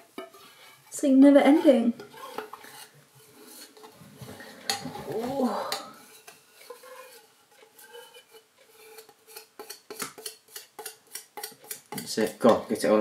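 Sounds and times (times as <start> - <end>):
metal spoon scraping tin lid: 0.2 - 12.8.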